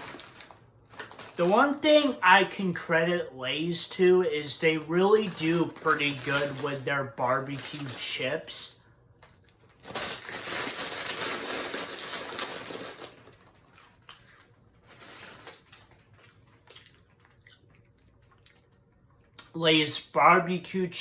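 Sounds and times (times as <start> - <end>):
potato chip bag crinkling: 0.0 - 2.9, 3.5 - 18.8.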